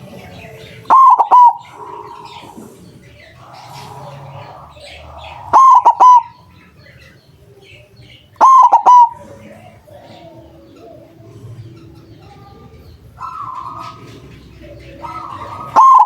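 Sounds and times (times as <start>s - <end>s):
dove cooing: 0.0s - 16.0s
small birds chirping: 0.0s - 16.0s.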